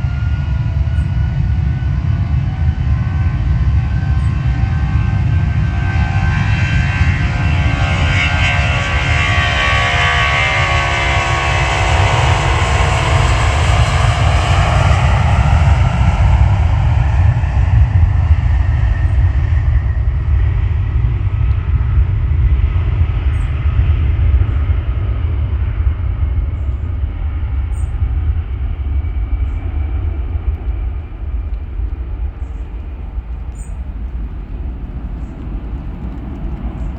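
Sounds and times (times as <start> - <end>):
jet engines whining: 0.0 - 36.9
low jet rumble: 0.0 - 36.9.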